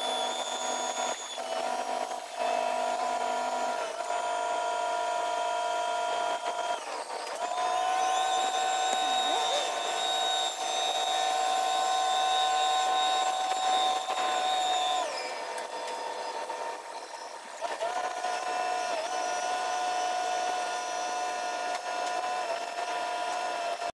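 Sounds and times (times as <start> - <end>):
sped-up crane engine whine: 0.0 - 23.9.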